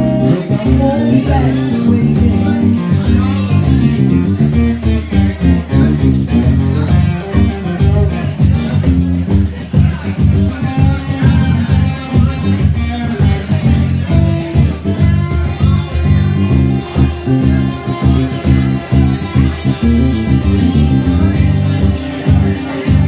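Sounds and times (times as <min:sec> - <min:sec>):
guitar: 0:00.0 - 0:23.0
live band playing instrumental: 0:00.0 - 0:23.0
pulsing bass line: 0:00.0 - 0:23.0.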